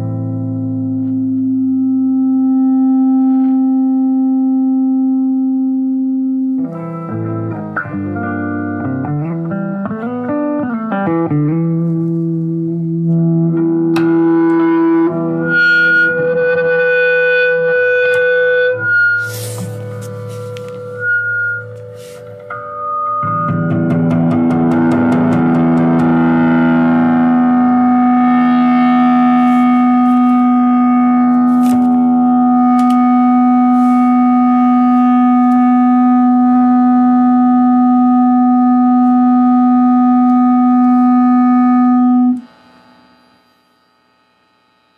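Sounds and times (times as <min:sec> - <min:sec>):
electric guitar feedback: 0:00.0 - 0:44.9
faint amplifier hum: 0:00.0 - 0:44.9.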